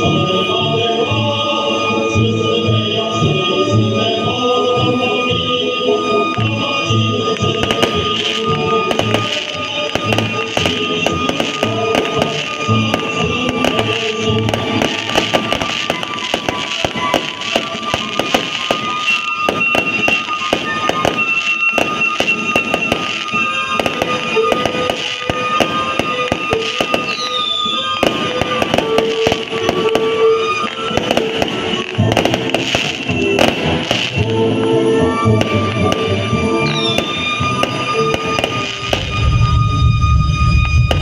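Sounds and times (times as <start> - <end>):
music playing: 0.0 - 41.0
fireworks bangs and crackles: 6.2 - 41.0.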